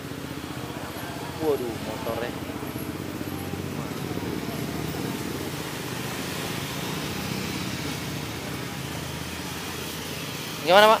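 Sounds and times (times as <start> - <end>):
motorbikes and cars passing: 0.0 - 11.0
vehicle engine and road noise: 0.0 - 11.0.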